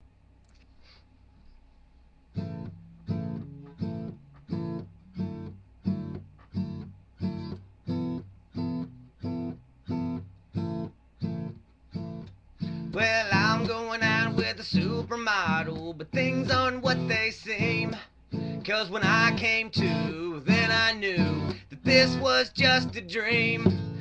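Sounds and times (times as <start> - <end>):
guitar strummed: 2.4 - 24.0.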